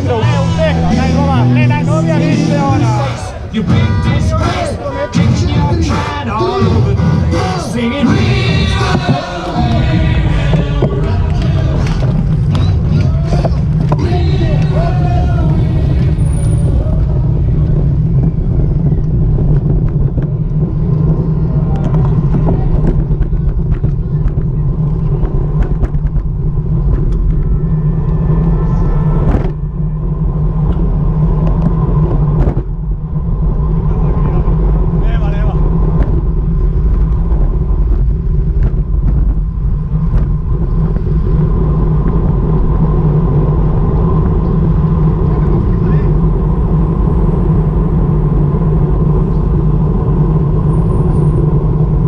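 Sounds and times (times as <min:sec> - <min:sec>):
road noise: 0:00.0 - 0:52.0
wind rumble: 0:00.0 - 0:52.0.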